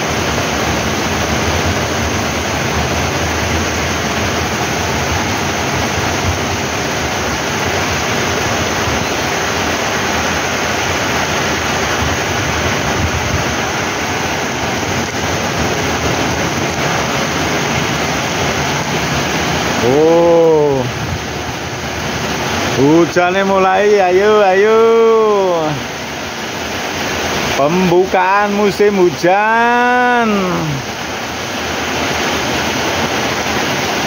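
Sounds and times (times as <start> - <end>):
heavy rain on pavement: 0.0 - 34.0.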